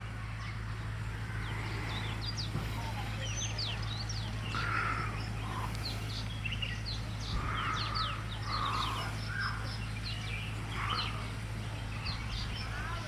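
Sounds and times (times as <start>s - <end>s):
small birds chirping: 0.0s - 13.0s
steady low hum: 0.0s - 13.0s
harsh bird calls: 0.1s - 13.0s.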